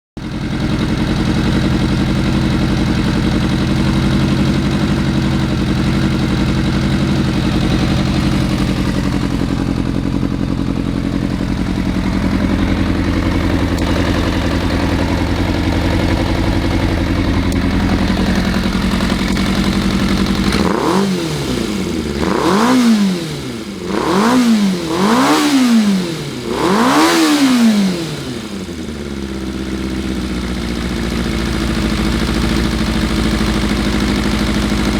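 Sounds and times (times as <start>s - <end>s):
motorcycle engine idling and revving: 0.2s - 34.9s.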